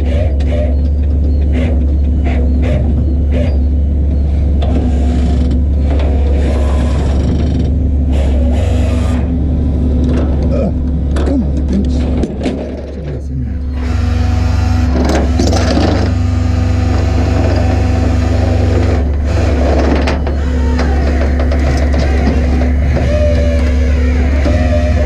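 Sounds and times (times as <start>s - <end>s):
truck engine droning: 0.0s - 25.0s.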